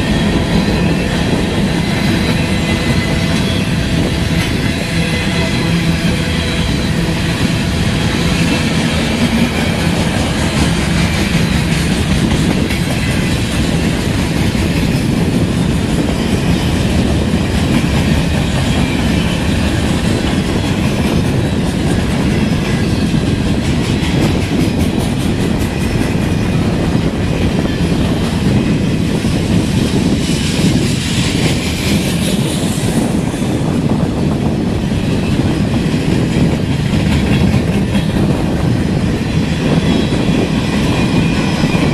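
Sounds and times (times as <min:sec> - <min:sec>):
train wheels clacking on rails: 0:00.0 - 0:41.9.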